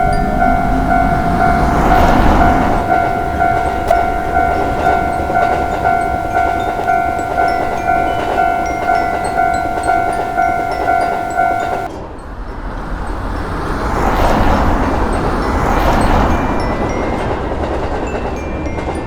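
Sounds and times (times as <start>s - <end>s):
railroad crossing bell ringing: 0.0s - 11.9s, 12.9s - 19.0s
train rumbling past: 0.0s - 19.0s.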